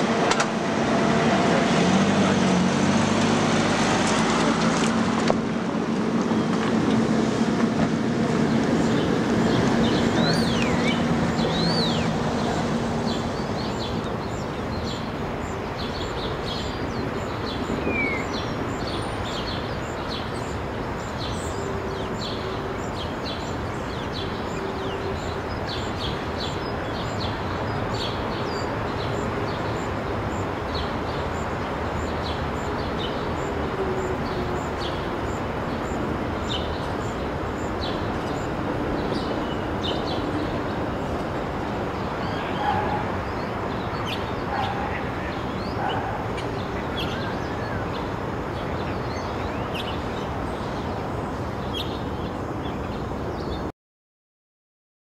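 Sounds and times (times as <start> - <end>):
steady background noise: 0.0 - 53.7
birds chirping: 7.8 - 53.7.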